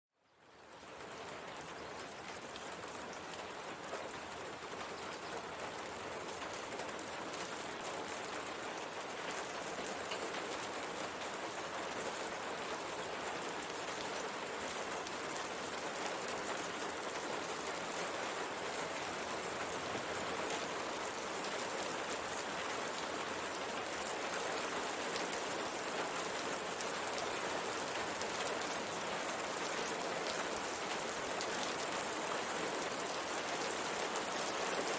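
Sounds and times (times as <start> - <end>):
rain on a window: 0.2 - 34.9.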